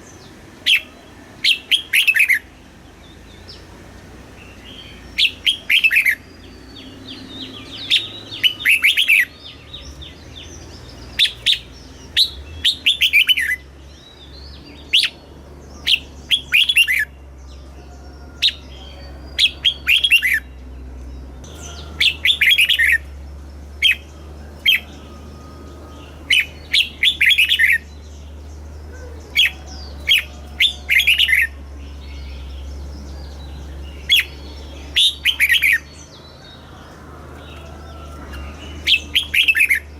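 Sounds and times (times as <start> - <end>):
bird singing whistled notes: 0.0 - 3.7, 4.4 - 37.0, 37.6 - 39.9
steady low hum: 0.0 - 39.9.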